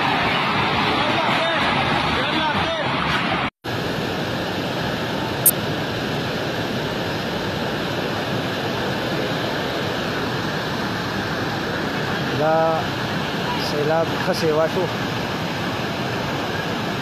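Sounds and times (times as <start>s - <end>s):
river torrent rushing: 0.0s - 17.0s.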